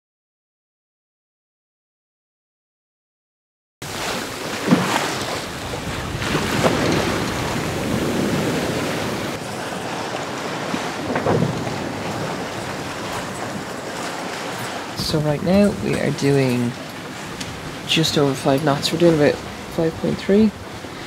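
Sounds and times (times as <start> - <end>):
water rushing past hull: 3.8 - 21.0
wind on microphone: 3.8 - 21.0.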